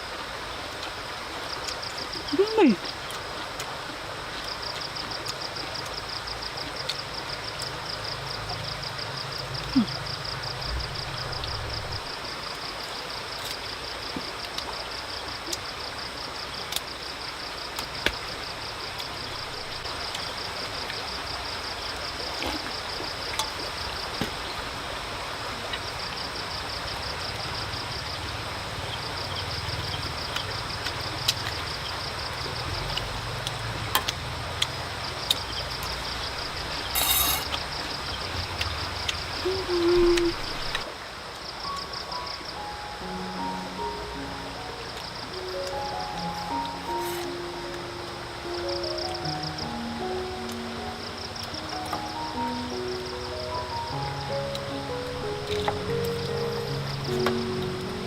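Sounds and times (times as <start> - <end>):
constant hiss: 0.0 - 58.0
insects trilling: 0.0 - 58.0.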